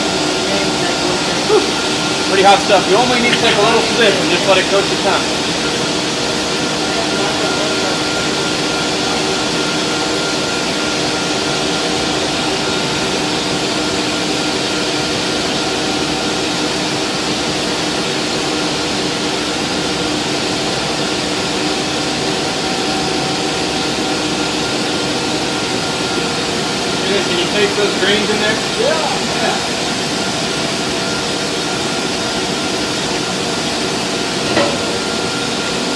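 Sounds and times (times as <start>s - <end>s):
machinery drone: 0.0s - 35.9s.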